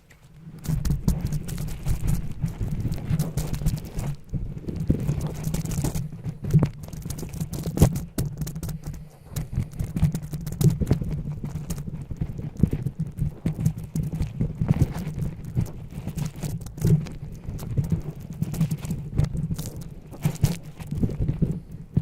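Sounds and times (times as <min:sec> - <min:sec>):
rapid irregular clicks and taps: 0:00.0 - 0:22.0.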